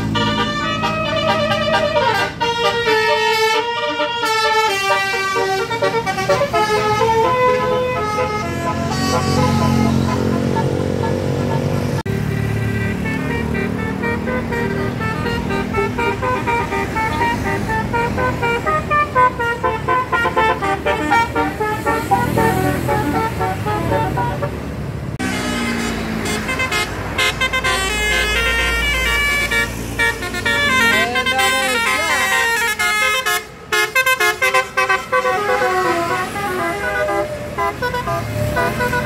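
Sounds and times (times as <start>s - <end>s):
engine and traffic noise: 0.0s - 39.0s
musical air horn playing tune: 0.0s - 39.0s.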